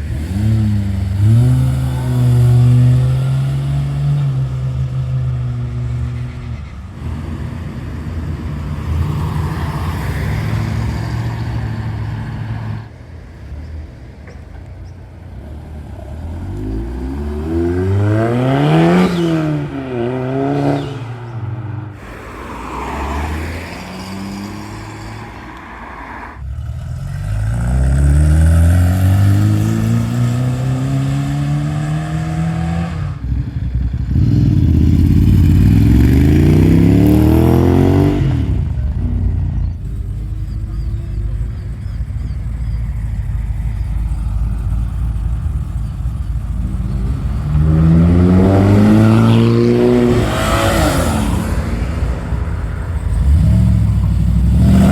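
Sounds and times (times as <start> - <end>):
car engines revving past: 0.0 - 13.5, 14.5 - 54.9.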